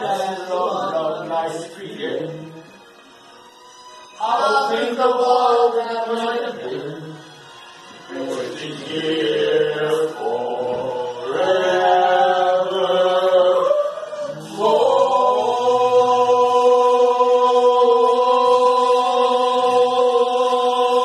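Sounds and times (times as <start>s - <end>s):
group of voices singing: 0.0s - 2.6s, 4.2s - 21.0s.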